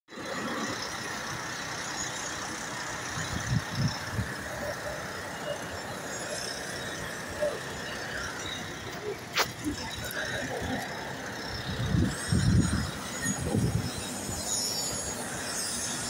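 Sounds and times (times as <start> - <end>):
construction site noise: 0.1 - 16.0.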